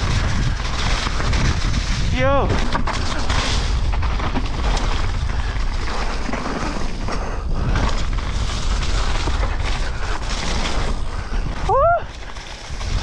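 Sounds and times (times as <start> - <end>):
bike rattling over bumps: 0.0 - 13.0
bike tyres on trail: 0.0 - 13.0
wind buffeting microphone: 0.0 - 13.0.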